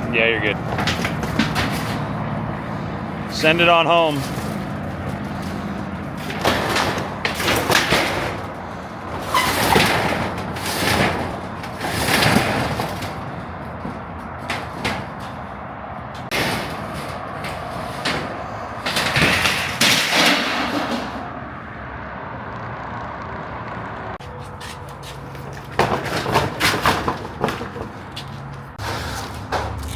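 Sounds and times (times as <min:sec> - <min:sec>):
paneling sheets scraping and clattering: 0:00.5 - 0:21.3, 0:24.2 - 0:29.9.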